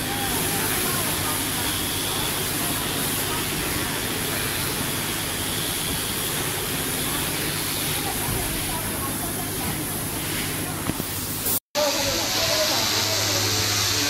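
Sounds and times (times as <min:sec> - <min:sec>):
blades cutting fabric hiss: 0:00.0 - 0:14.0.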